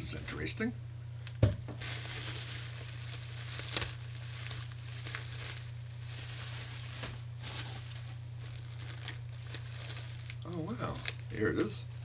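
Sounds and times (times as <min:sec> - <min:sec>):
bubble wrap crinkling: 0:01.7 - 0:12.0.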